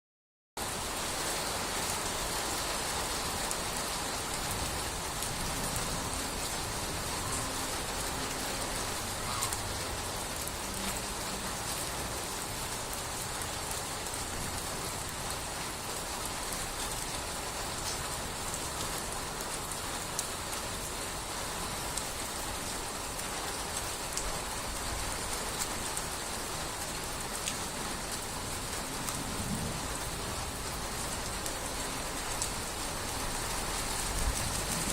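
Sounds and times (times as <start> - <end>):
steady rain falling: 0.6 - 34.9.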